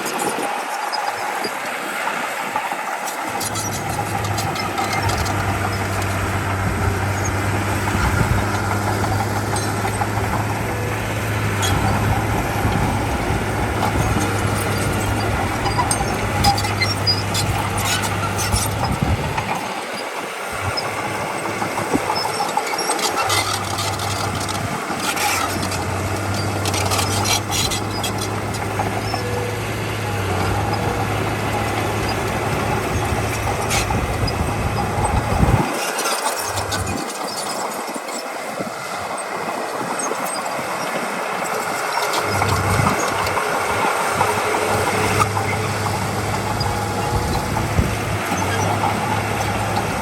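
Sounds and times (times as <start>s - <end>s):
diesel engine of heavy machinery: 0.0s - 50.0s
clanks and rattles: 2.6s - 38.2s, 41.4s - 50.0s.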